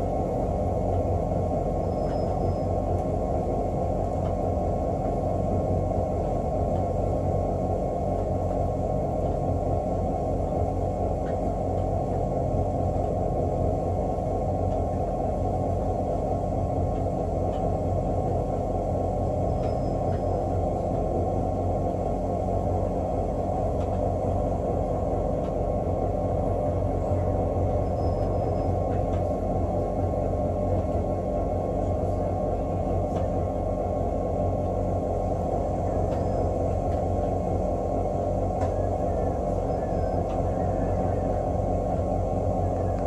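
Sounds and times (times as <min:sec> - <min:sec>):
wheels rumbling on rail: 0:00.0 - 0:43.0.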